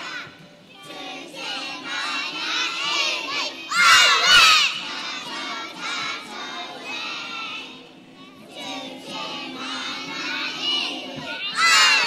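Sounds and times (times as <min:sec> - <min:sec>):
children shouting: 0:00.0 - 0:12.0.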